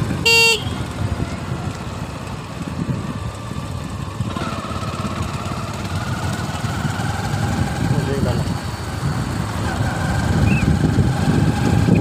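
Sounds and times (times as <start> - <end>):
motorcycle engine at speed: 0.0 - 12.0
wind rumbling on microphone: 0.0 - 12.0.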